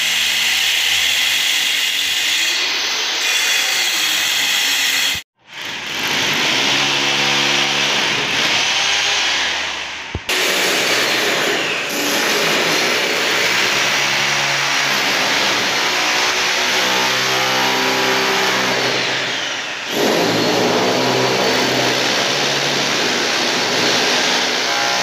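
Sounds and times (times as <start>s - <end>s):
hammer drill boring into concrete: 0.0s - 16.0s, 16.6s - 25.0s.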